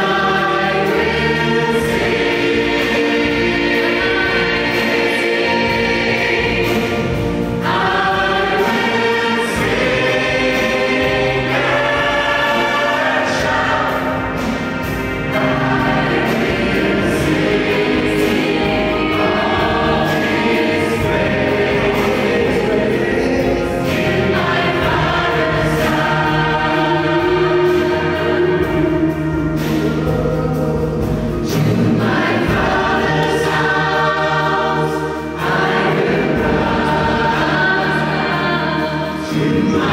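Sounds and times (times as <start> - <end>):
gospel choir singing through pa: 0.0 - 39.9.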